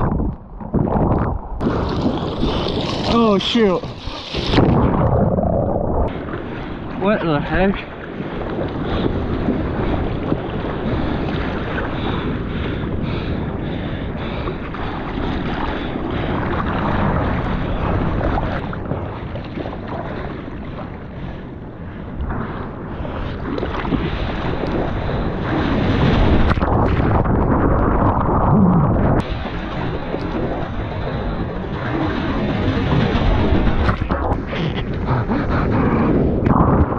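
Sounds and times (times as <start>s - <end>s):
sea water sloshing and splashing: 0.0s - 35.8s
wind buffeting microphone: 0.0s - 36.9s.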